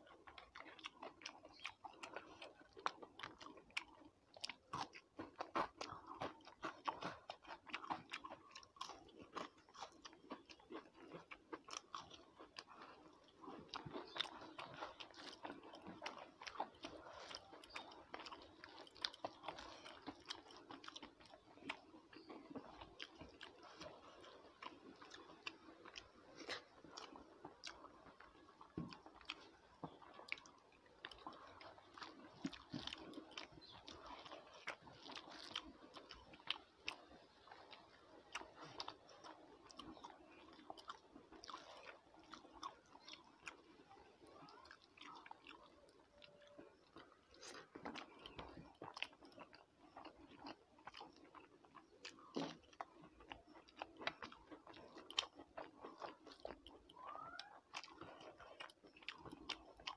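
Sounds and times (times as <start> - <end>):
crunch: 0.0 - 59.9
person chewing rice: 0.0 - 59.9.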